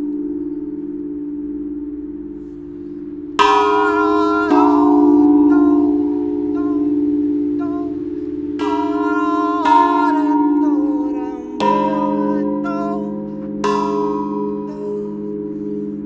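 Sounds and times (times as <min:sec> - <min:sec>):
metal chime tubes struck: 0:02.0 - 0:16.0.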